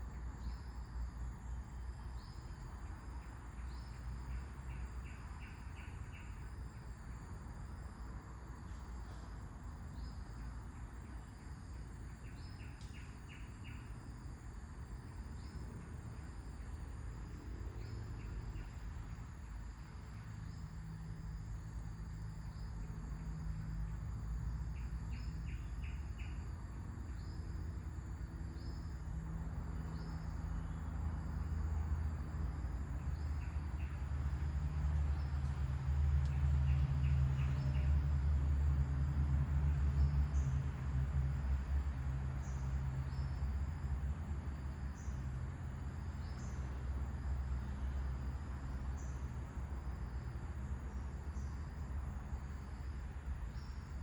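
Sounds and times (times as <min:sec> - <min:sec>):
insects: 0:00.0 - 0:54.0.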